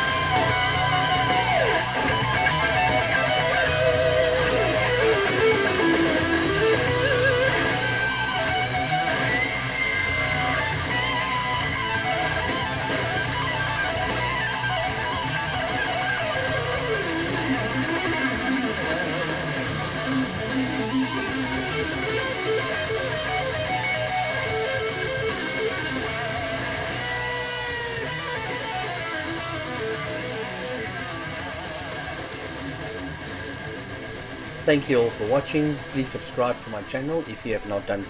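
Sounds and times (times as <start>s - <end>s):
guitar music over speakers: 0.0s - 38.0s.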